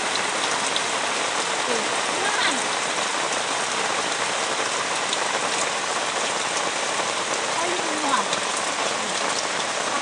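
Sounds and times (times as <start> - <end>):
rain falling on leaves: 0.0 - 10.0
sharp raindrops: 0.0 - 10.0.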